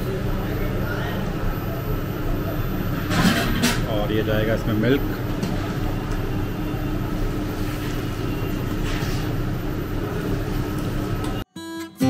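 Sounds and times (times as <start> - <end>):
kitchen mechanical hum: 0.0 - 11.5.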